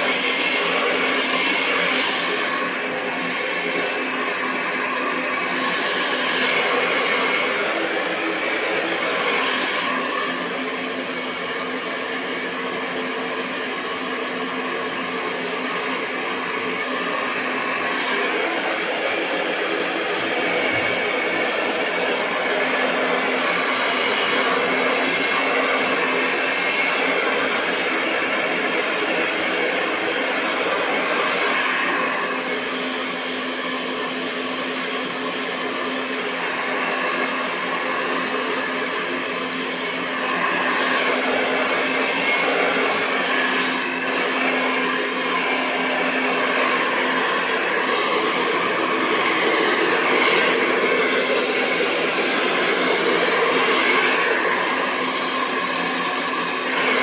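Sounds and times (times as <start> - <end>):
hair dryer blowing: 0.0 - 57.0.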